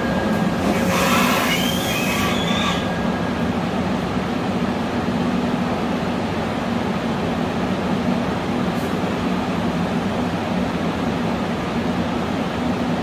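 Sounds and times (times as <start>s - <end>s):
train low hum: 0.0s - 13.0s.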